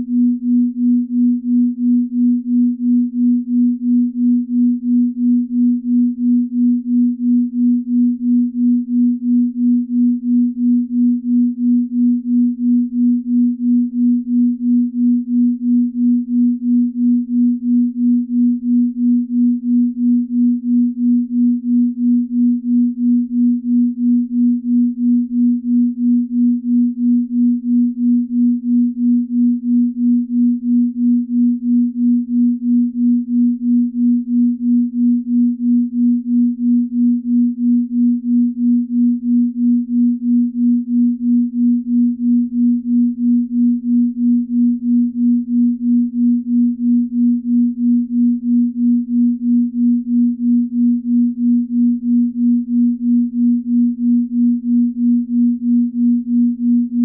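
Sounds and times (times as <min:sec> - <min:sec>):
pulsing low pure tone: 0:00.0 - 0:57.0.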